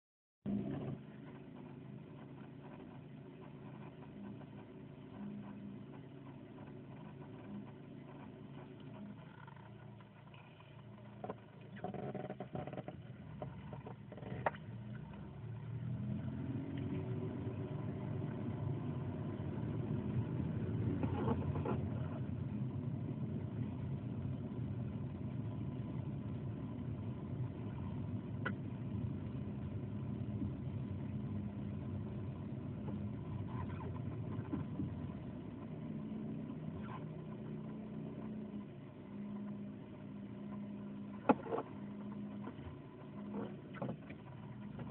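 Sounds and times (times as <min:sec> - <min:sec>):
steady low-pitched multi-tone hum: 0:00.4 - 0:44.9.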